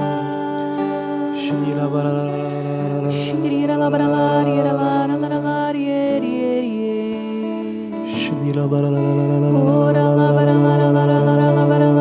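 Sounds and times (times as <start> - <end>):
soft worship music: 0.0 - 12.0.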